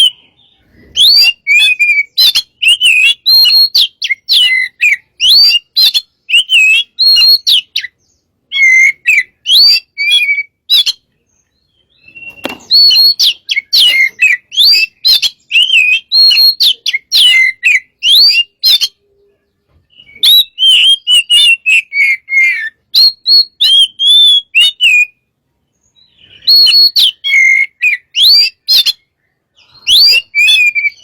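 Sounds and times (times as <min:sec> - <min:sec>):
magpie-robin singing: 0:00.0 - 0:31.0.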